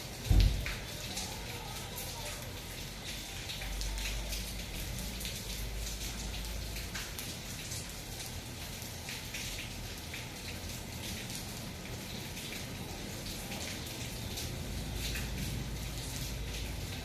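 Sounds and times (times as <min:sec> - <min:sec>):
rain drops striking a surface: 0:00.0 - 0:17.0.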